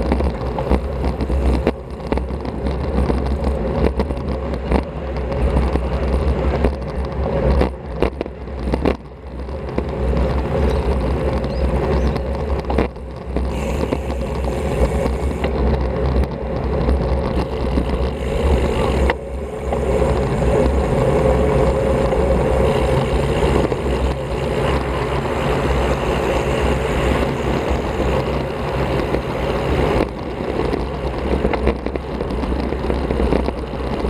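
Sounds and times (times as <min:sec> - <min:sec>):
bicycle road noise: 0:00.0 - 0:34.0.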